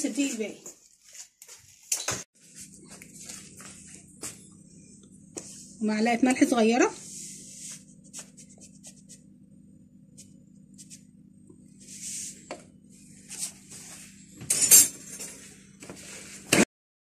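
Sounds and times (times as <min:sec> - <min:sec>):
faint steady hum: 0:02.5 - 0:16.3.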